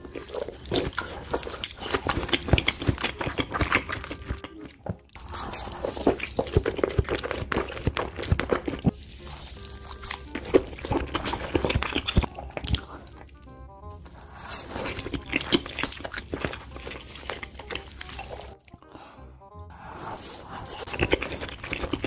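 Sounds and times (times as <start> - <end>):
mouth chewing and smacking: 0.0 - 19.0, 19.6 - 22.0
background music: 0.0 - 22.0.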